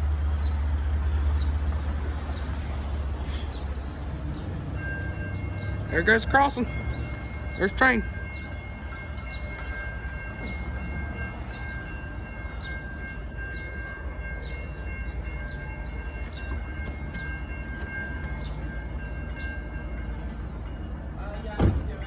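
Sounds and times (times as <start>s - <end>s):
crossing warning bells ringing: 0.0s - 22.0s
diesel locomotive rumble: 0.0s - 22.0s.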